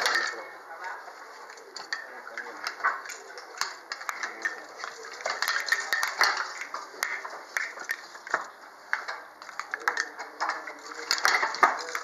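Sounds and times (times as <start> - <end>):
handloom clattering: 0.0 - 0.4, 1.7 - 12.0.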